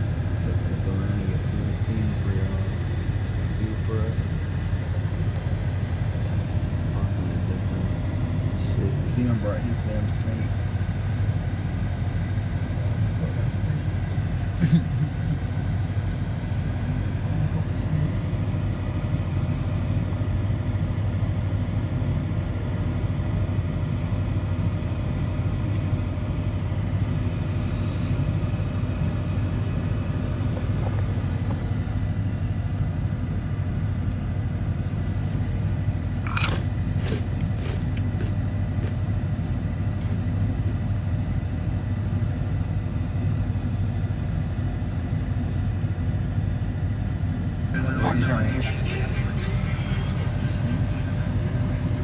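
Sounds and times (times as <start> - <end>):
car engine rumble: 0.0 - 52.0.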